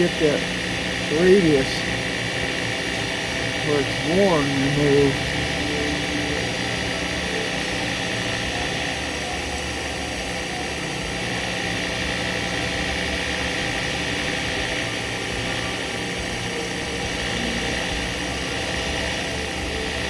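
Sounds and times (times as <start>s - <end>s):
milling machine whining: 0.0s - 20.0s.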